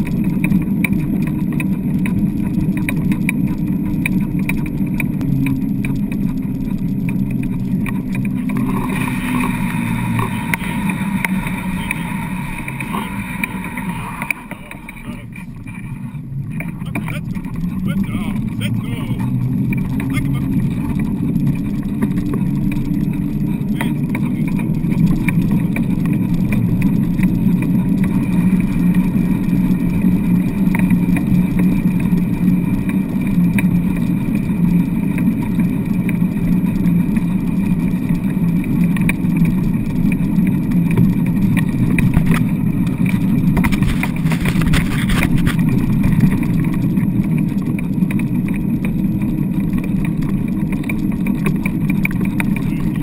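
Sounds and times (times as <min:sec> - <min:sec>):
wheeled rig rumbling over sand: 0:00.0 - 0:53.0.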